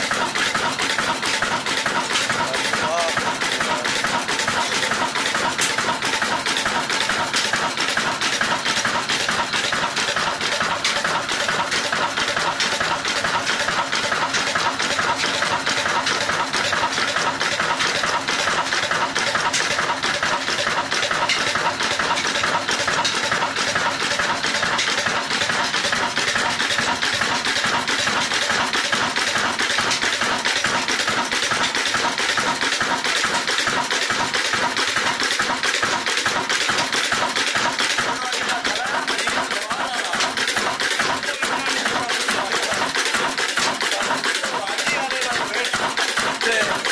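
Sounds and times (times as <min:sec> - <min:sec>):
diesel engine running: 0:00.0 - 0:46.9
flour mill running: 0:00.0 - 0:46.9.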